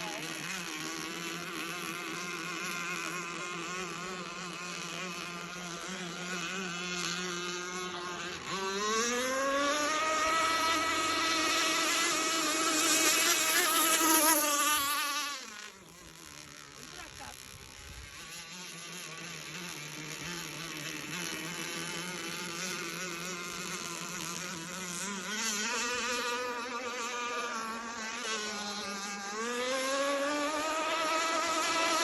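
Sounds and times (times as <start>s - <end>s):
two-stroke boat engine running: 0.0s - 32.0s.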